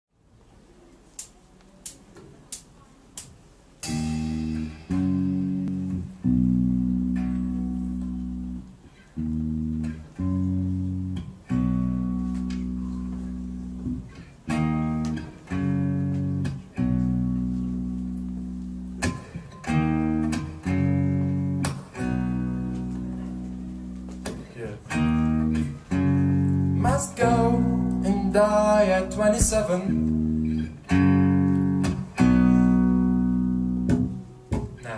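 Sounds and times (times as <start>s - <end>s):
guitar and bass chords: 3.8s - 34.8s.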